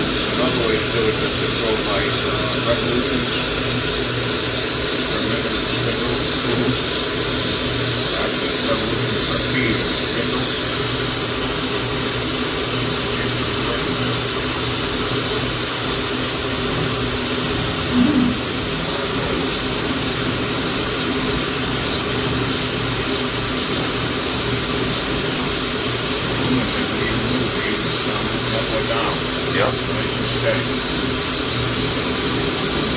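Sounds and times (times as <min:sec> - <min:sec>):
machine whirring hum and hiss: 0:00.0 - 0:32.9.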